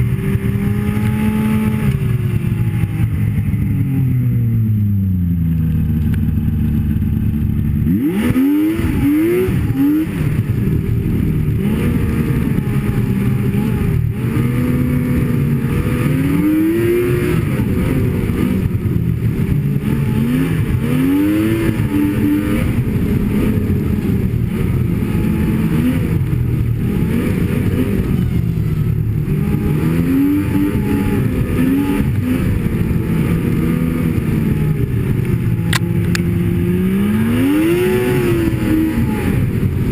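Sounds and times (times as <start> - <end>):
snowmobile engine revving: 0.0 - 39.9
track and wind noise: 0.0 - 39.9.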